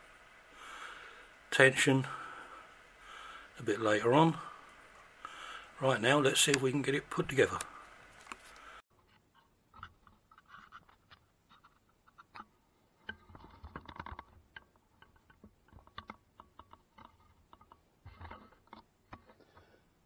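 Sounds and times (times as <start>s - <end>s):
rustling: 0.0s - 19.9s.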